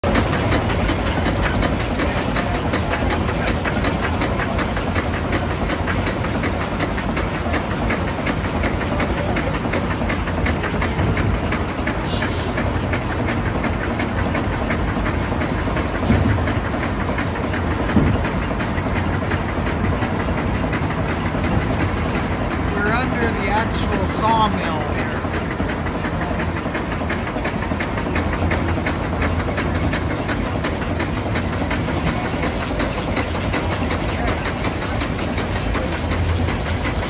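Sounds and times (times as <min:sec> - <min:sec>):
steam engine clattering: 0:00.0 - 0:37.0.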